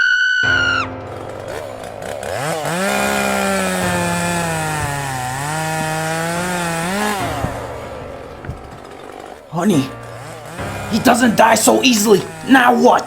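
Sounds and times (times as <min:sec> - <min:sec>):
chainsaw engine revving: 0:01.0 - 0:13.0.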